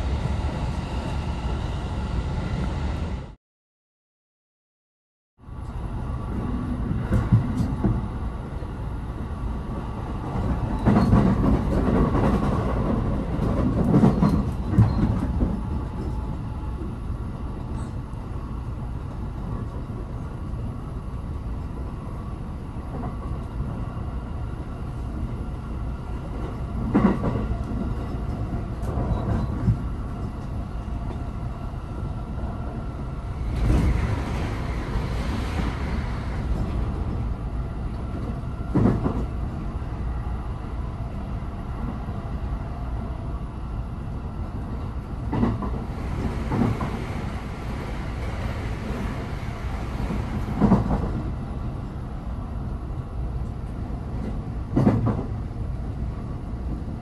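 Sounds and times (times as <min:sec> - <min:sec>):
train low rumble: 0:00.0 - 0:03.4, 0:05.4 - 0:57.0.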